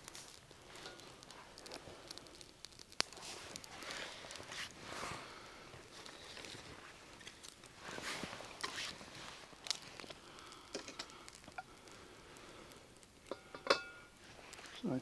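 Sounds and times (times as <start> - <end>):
sticks rustling on campfire: 0.0 - 15.0.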